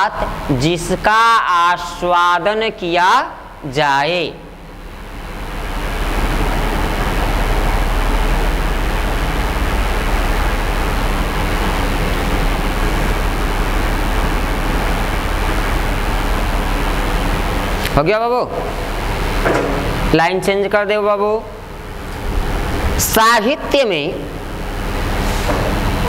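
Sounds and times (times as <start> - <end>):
low hum: 0.0 - 26.0
steady loud hiss: 0.0 - 26.0.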